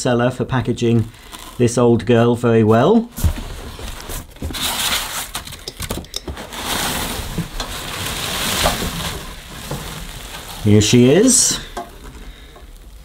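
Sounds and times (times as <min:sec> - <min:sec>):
bubble wrap and foam crinkling: 0:00.5 - 0:13.0.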